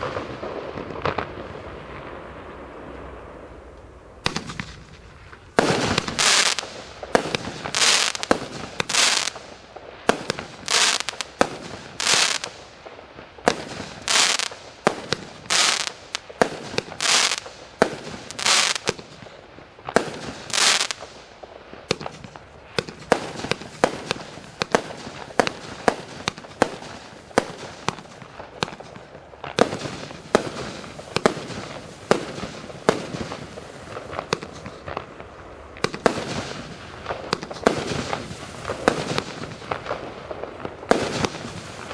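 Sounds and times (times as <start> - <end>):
fireworks firing: 0.0 - 41.9.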